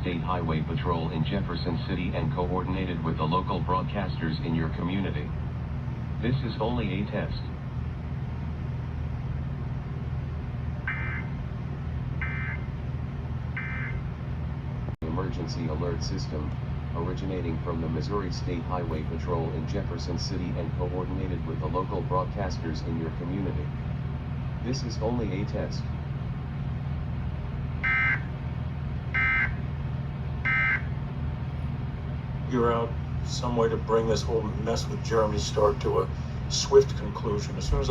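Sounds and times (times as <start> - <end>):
low hum: 0.0 - 37.9.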